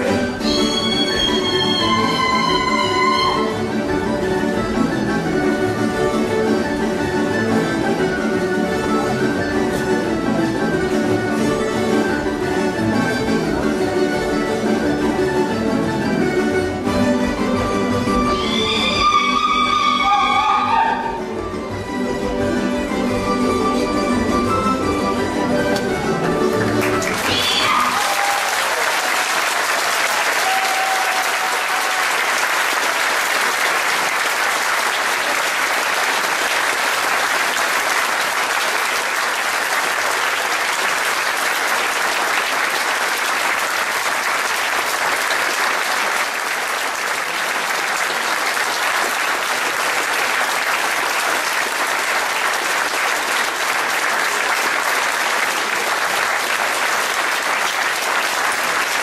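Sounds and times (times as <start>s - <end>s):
large audience applauding: 0.0s - 21.7s, 24.2s - 59.0s.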